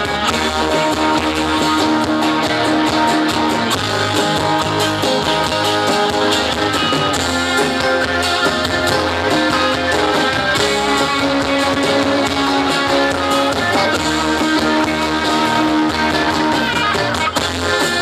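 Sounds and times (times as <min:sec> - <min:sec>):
live band instrumental with guitar: 0:00.0 - 0:18.0.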